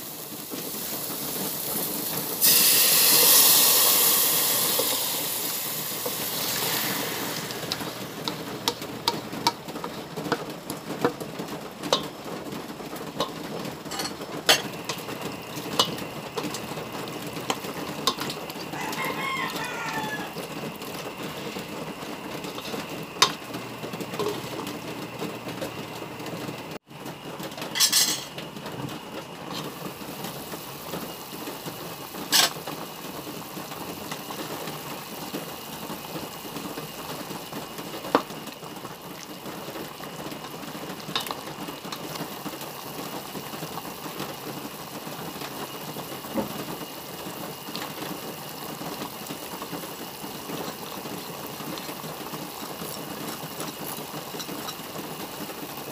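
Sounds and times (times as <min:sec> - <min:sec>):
pot simmering and bubbling: 0:00.0 - 0:55.9.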